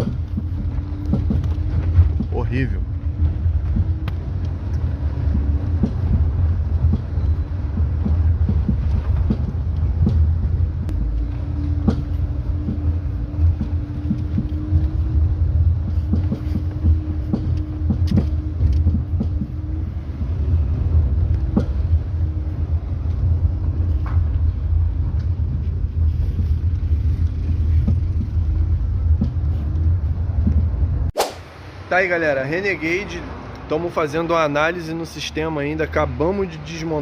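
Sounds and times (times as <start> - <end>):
suspension knocking: 0.0 - 31.1
car driving rumble: 0.0 - 37.0.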